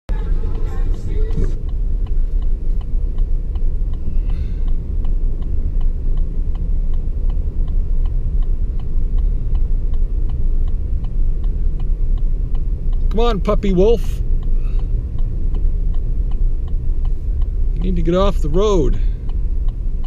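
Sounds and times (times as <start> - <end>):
car engine and tyres rumbling: 0.0 - 20.0
indicator ticking: 0.1 - 20.0.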